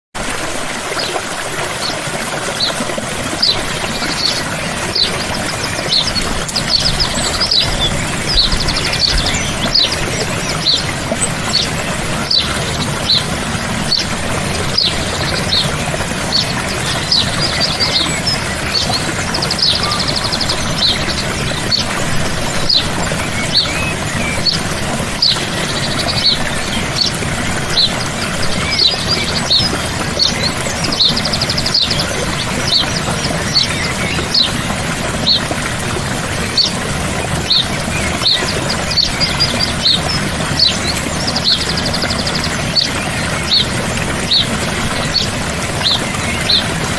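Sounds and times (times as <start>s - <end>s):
stream running: 0.2s - 46.9s
small birds chirping: 1.8s - 46.9s.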